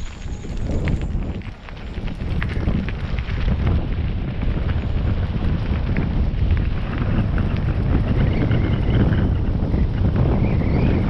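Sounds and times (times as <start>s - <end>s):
tyres rumbling on cobblestones: 0.0s - 11.0s
wind buffeting microphone: 0.0s - 11.0s.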